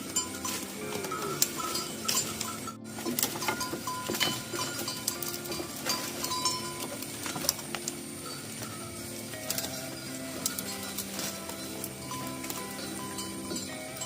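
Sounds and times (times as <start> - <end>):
cattle lowing: 0.0 - 14.0
small clinks and knocks: 0.0 - 14.0.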